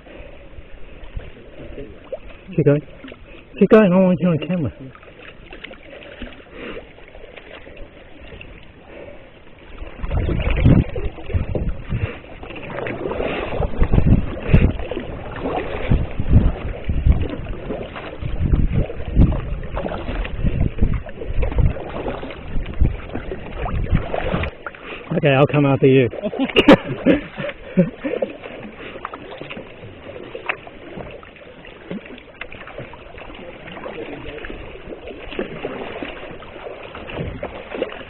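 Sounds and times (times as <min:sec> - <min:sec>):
wind rumbling on microphone: 0:00.0 - 0:03.7, 0:07.1 - 0:38.0
paddle strokes: 0:00.0 - 0:38.0
water washing around hull: 0:00.0 - 0:38.0.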